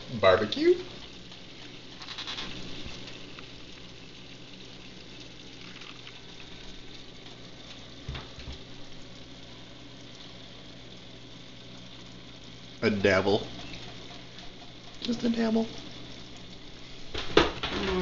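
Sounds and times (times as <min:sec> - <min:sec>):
chili bubbling in saucepan: 0:00.0 - 0:18.0
hot dogs frying: 0:00.0 - 0:18.0.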